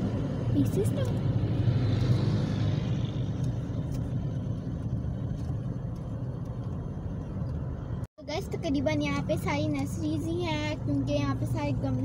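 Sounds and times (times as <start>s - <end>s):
car driving interior rumble: 0.0s - 12.0s.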